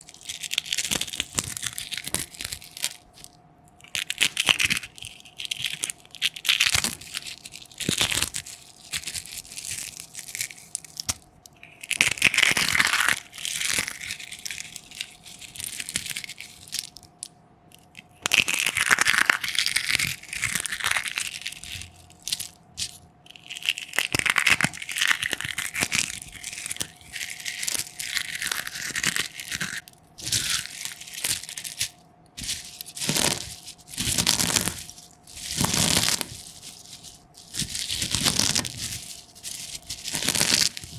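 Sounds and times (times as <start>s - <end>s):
eggshells crackling and crunching: 0.0s - 40.9s
faint steady hum: 0.0s - 40.9s.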